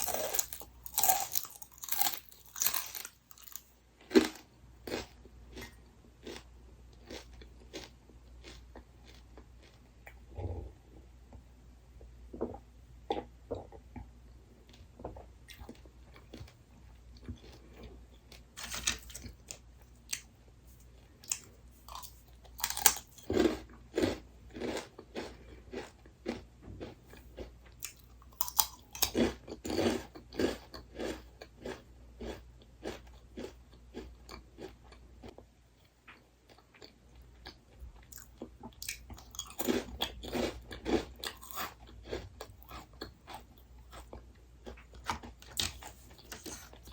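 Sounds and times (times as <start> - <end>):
person chewing crunchy snack: 0.0 - 10.7, 14.7 - 20.3, 21.0 - 35.4, 36.5 - 46.9.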